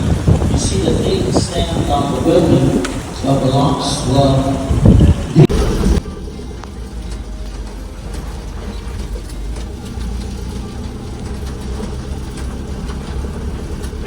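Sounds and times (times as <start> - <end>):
heavy engine idling: 0.0 - 14.0.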